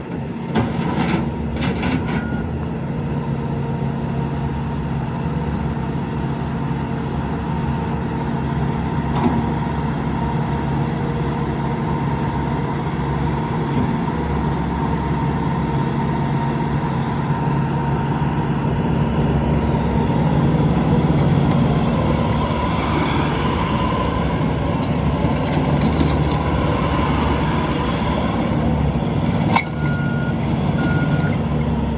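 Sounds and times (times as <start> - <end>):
diesel engine droning: 0.0 - 31.9.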